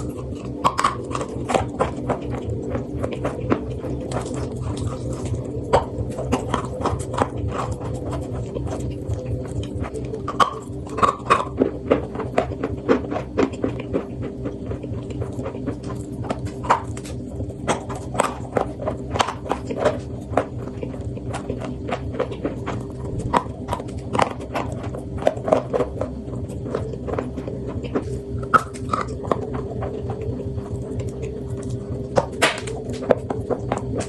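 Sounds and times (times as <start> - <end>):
chalk being chewed: 0.0 - 34.0
steady low hum: 0.0 - 34.0.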